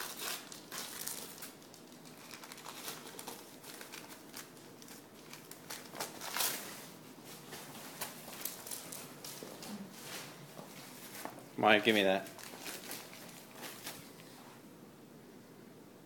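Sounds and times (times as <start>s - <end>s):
newspaper crinkling and rustling: 0.0s - 14.5s.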